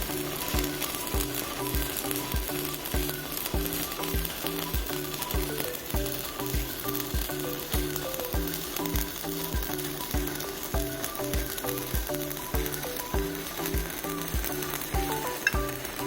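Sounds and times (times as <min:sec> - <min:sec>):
background music with kick drum: 0:00.0 - 0:16.0
welding arc crackling: 0:00.0 - 0:16.0.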